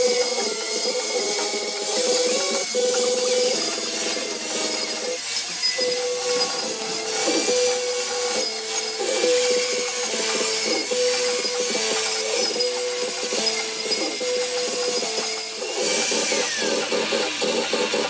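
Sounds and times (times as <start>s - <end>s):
angle grinder grinding metal: 0.0s - 18.0s.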